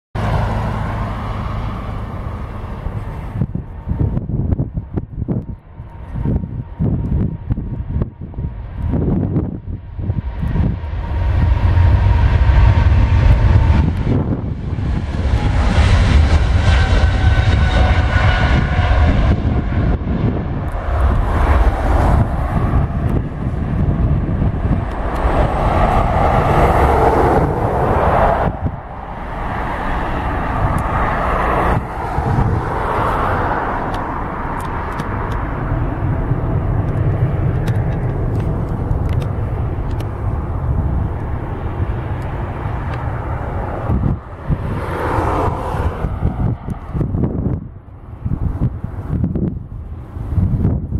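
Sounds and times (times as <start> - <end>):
jet taking off: 0.2 - 50.9.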